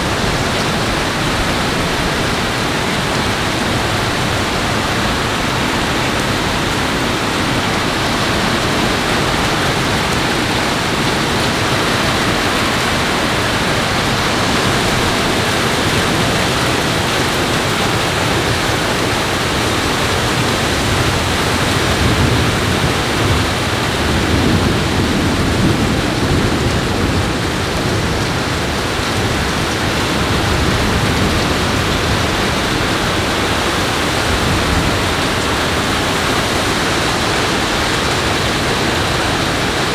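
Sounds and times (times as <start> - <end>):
heavy rain rushing: 0.0 - 39.9.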